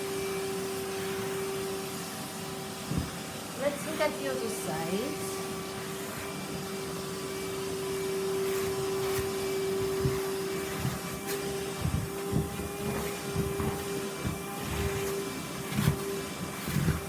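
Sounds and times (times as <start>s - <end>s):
vacuum cleaner humming: 0.0s - 17.0s
vacuum nozzle bumping cushions: 0.0s - 17.0s.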